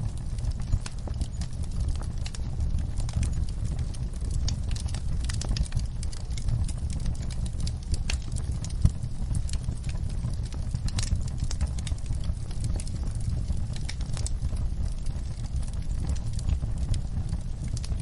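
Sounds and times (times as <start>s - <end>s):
fire crackling in a fireplace: 0.0s - 18.0s.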